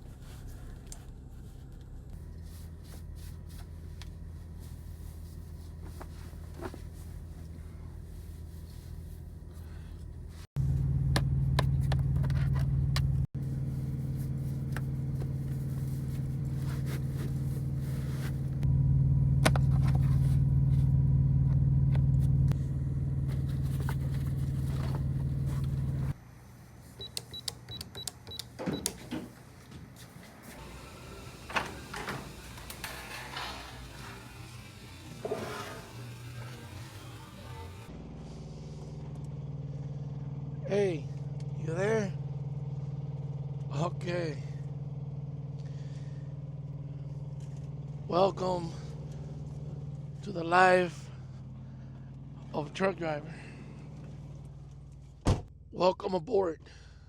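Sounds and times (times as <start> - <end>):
truck engine humming: 0.0 - 48.1.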